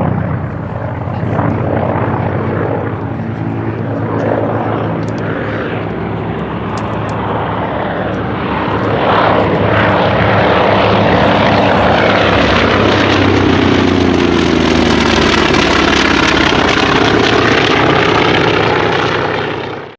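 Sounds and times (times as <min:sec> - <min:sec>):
propeller plane flying past: 0:00.0 - 0:19.9.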